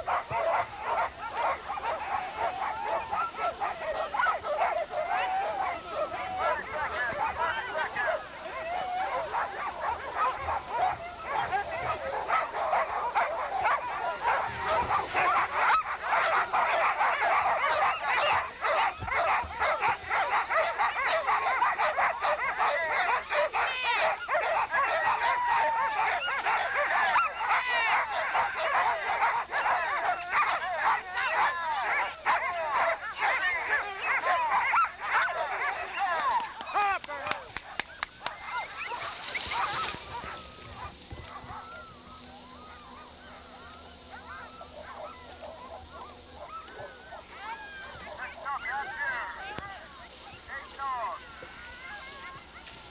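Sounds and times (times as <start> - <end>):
dogs barking and yelping: 0.0 - 52.9.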